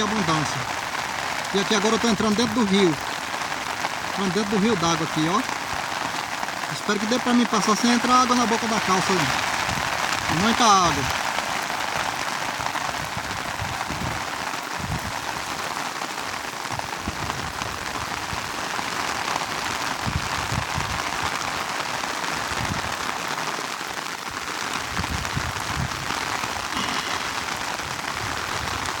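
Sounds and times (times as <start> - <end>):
rushing river water: 0.0 - 29.0.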